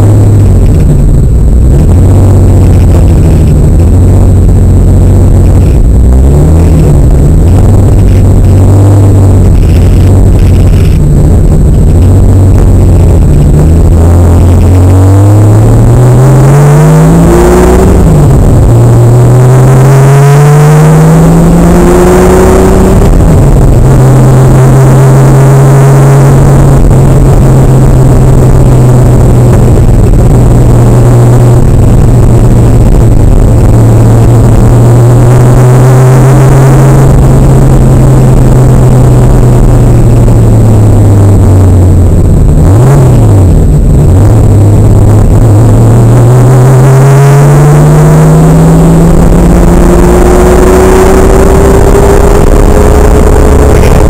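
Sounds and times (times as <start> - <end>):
loud car engine in cabin: 0.0 - 54.0.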